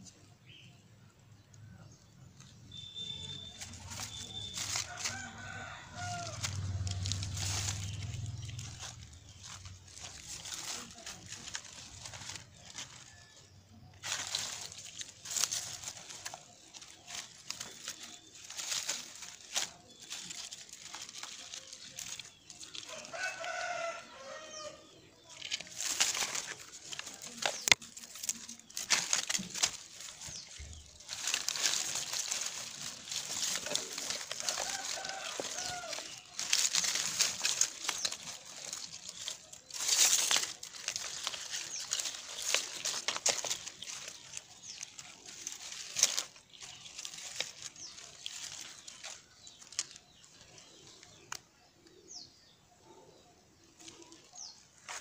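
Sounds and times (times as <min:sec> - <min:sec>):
dry leaves rustling: 0:00.0 - 0:55.0
bag rustling: 0:02.7 - 0:51.0.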